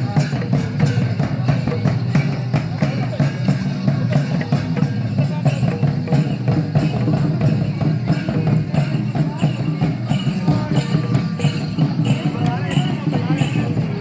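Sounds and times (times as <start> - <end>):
dance music with drum beat: 0.0 - 14.0
voices: 0.0 - 14.0.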